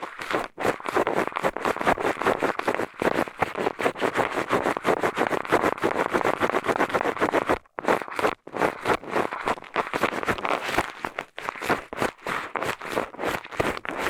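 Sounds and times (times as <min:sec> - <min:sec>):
scraping on microphone: 0:00.0 - 0:14.0.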